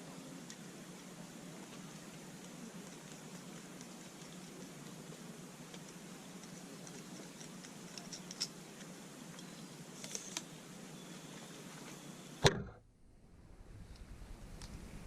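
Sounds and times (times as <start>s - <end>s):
campfire crackling: 0.0s - 12.4s.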